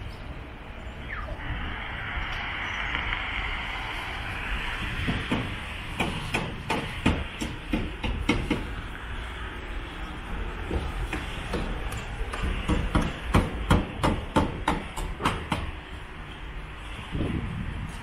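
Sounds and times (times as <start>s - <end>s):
distant city traffic hiss: 0.0s - 18.0s.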